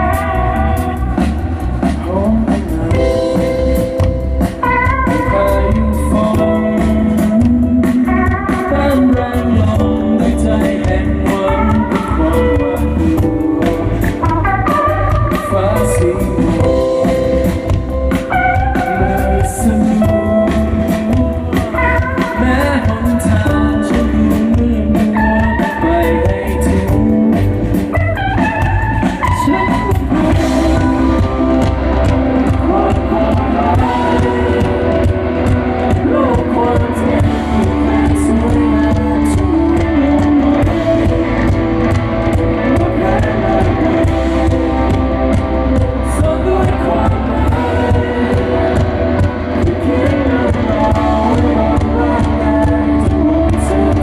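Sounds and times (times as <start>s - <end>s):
live band playing: 0.0s - 54.0s
person singing: 0.0s - 54.0s.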